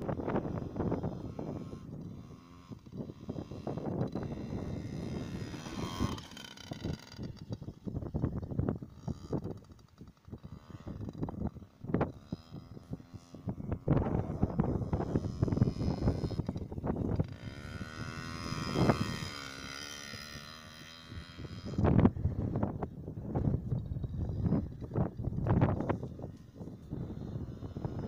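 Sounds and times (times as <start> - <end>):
two-stroke dirt bike engine revving: 0.0 - 28.0.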